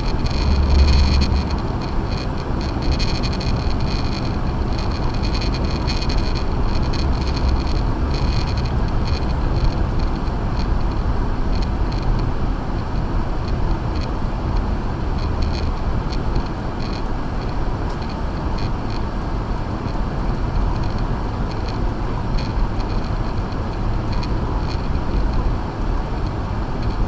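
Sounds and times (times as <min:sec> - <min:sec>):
car tyres rumbling on snow: 0:00.0 - 0:27.0.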